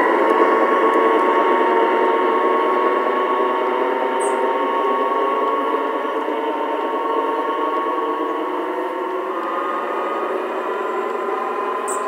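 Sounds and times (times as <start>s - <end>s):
model locomotive droning: 0.0s - 12.0s.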